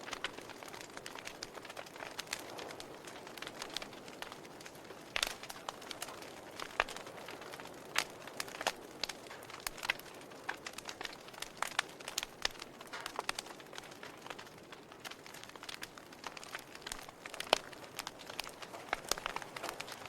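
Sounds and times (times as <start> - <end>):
soft hiss of flame: 0.0 - 20.0
wood fire crackling: 0.0 - 20.0.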